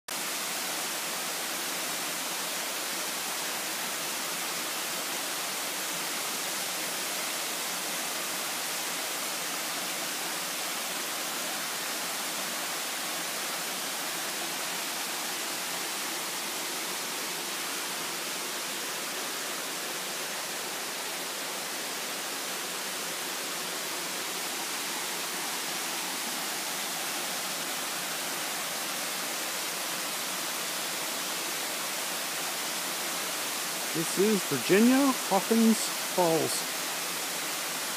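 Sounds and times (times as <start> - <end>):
waterfall rushing: 0.2 - 37.9.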